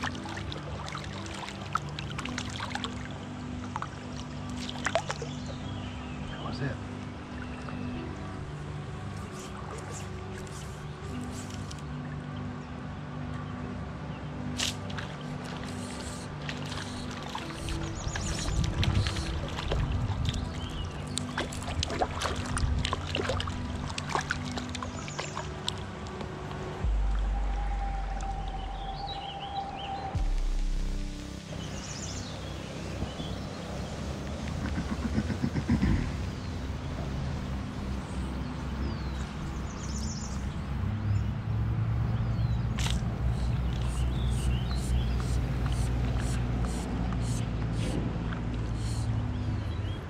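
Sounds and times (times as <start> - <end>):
water splashing: 0.0 - 5.7, 6.8 - 12.2, 14.4 - 27.4, 30.2 - 41.1, 41.7 - 49.1
river low rumble: 0.0 - 50.0
soft background music: 0.0 - 50.0.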